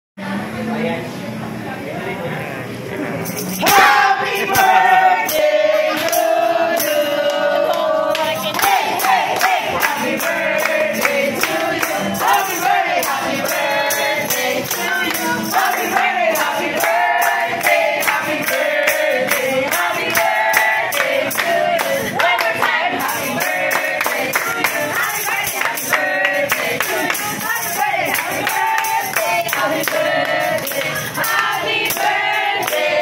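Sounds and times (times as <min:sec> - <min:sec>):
group singing a celebration song: 0:03.5 - 0:33.0
people clapping along: 0:03.6 - 0:33.0.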